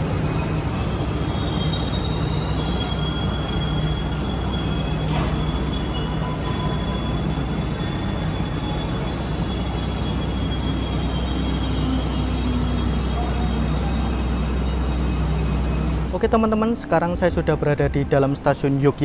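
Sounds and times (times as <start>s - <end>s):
wheels squealing on rails: 0.0s - 16.3s
train rumbling on tracks: 0.0s - 19.0s.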